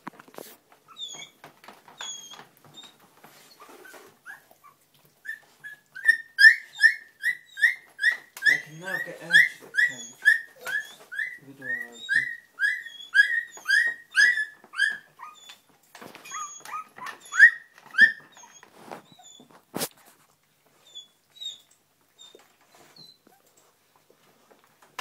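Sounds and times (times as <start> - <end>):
puppies whimpering: 0.9 - 19.6, 20.8 - 24.1.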